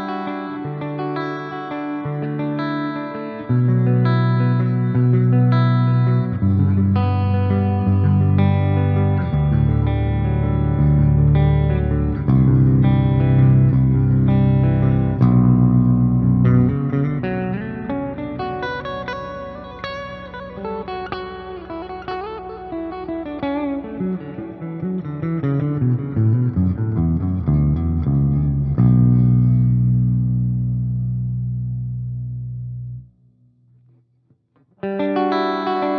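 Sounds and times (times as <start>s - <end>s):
electric guitar playing: 0.0s - 34.0s, 34.6s - 35.9s.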